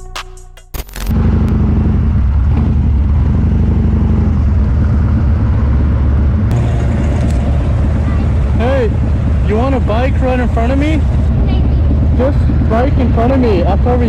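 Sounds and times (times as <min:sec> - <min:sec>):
motorcycle engine running: 0:01.0 - 0:14.0.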